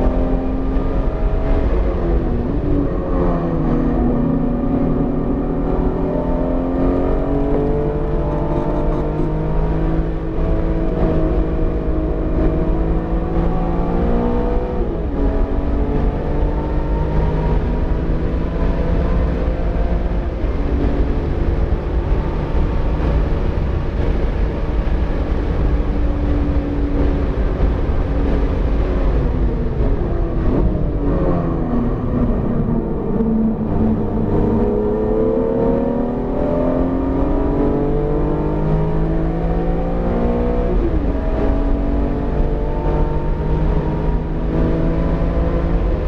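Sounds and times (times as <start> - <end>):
road and wind noise: 0.0 - 46.0.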